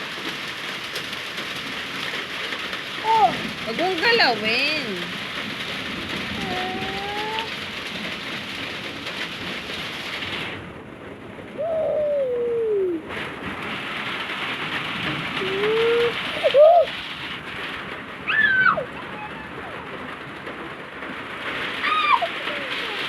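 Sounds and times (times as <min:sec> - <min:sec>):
rain hissing on a surface: 0:00.0 - 0:23.0.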